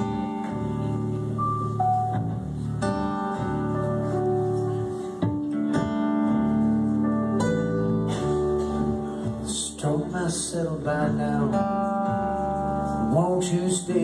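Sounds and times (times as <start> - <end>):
strummed acoustic guitars: 0.0 - 14.0
upright bass: 0.0 - 14.0.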